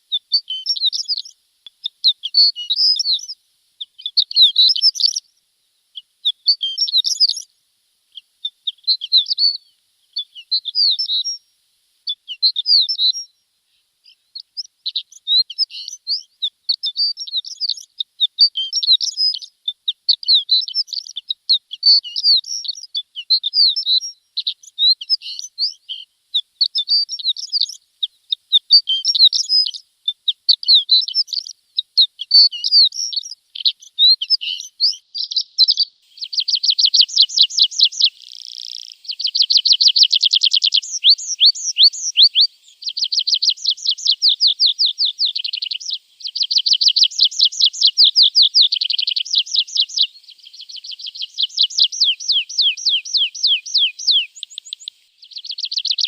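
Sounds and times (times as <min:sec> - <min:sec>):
lark singing trills and chirps: 0:00.0 - 0:05.3, 0:06.0 - 0:07.5, 0:08.1 - 0:11.5, 0:12.1 - 0:56.0.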